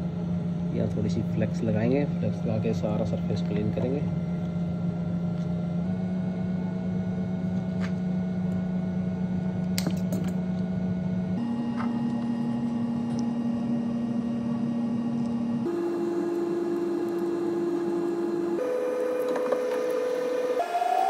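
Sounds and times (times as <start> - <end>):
electric fan motor hum: 0.0 - 21.0.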